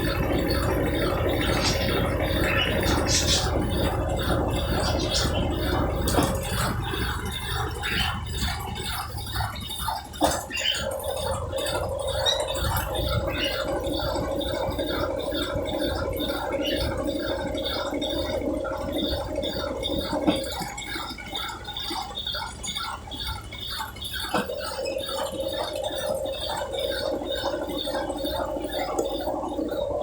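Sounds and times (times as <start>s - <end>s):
rhythmic swishing: 0.0s - 30.0s
washing machine hum: 0.0s - 30.0s
water gurgling: 0.0s - 30.0s.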